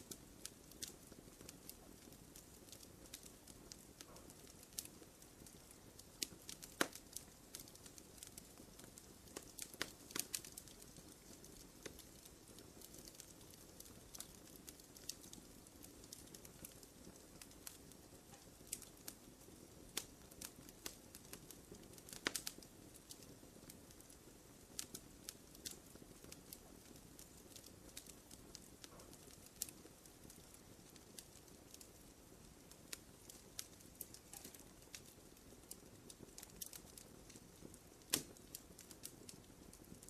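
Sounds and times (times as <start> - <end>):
campfire crackling and popping: 0.0 - 40.0
soft fire hiss: 0.0 - 40.0.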